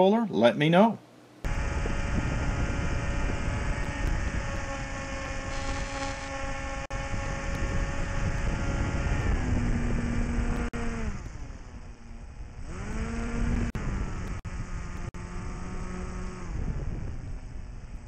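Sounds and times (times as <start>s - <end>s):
model airplane motor whining: 1.4s - 18.0s
wind noise: 1.5s - 18.0s.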